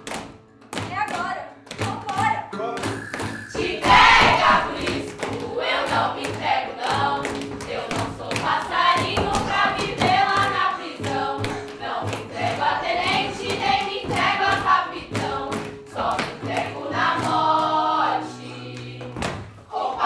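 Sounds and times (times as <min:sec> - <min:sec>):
hands clapping a beat: 0:00.0 - 0:19.5
group singing in chorus: 0:03.4 - 0:20.0.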